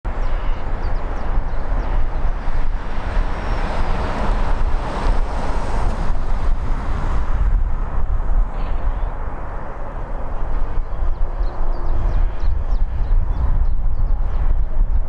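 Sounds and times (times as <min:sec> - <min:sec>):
distant jet engines: 0:00.1 - 0:15.0
wind buffeting microphone: 0:00.1 - 0:15.0.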